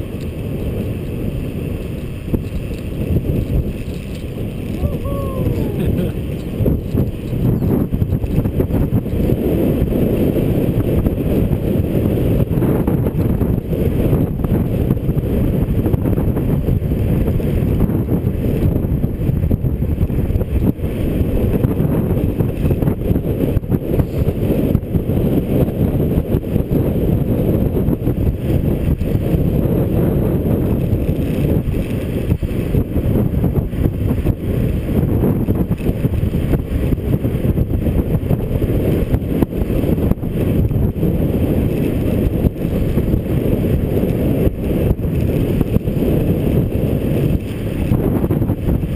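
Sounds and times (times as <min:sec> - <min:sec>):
wind rushing over microphone: 0:00.0 - 0:48.9.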